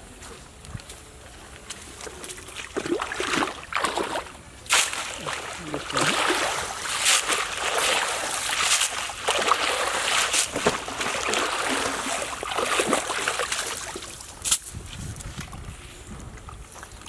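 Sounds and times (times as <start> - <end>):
water splashing and sloshing: 0.1 - 17.0.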